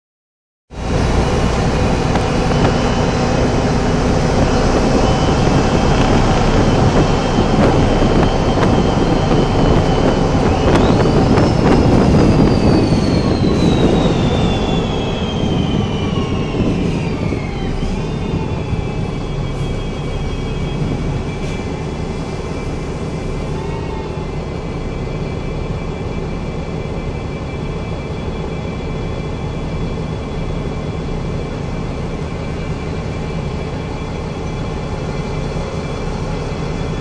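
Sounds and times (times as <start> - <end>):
bus engine and road noise: 0.7 - 37.0
high whine: 0.7 - 37.0.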